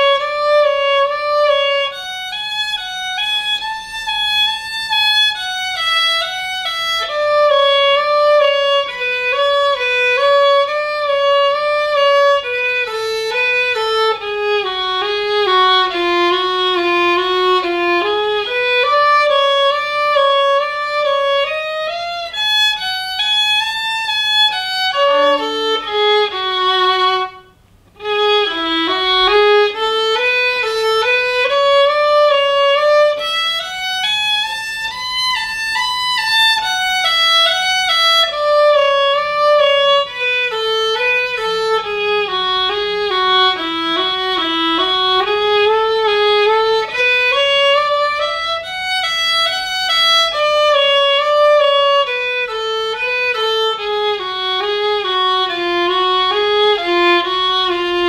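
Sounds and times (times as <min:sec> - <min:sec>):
solo violin playing: 0:00.0 - 0:58.0.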